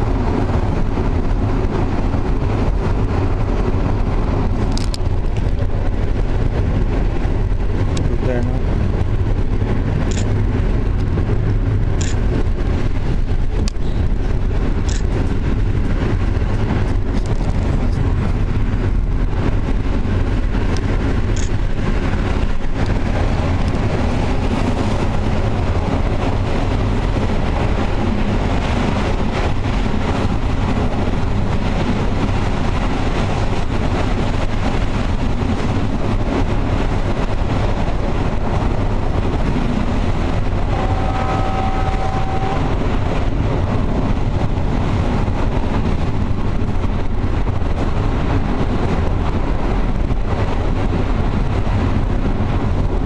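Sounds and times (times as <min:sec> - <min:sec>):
train rumbling on track: 0:00.0 - 0:53.0.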